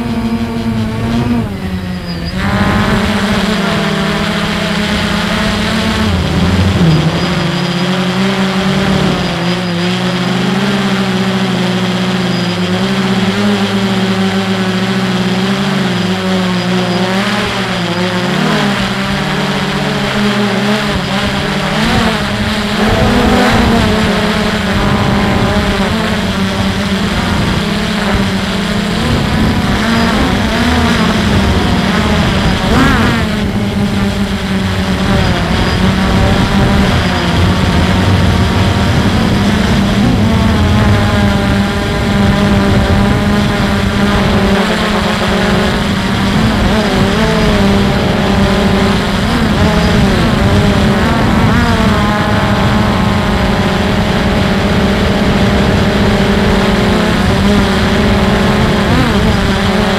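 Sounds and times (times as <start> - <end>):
drone propellers humming: 0.0 - 59.9.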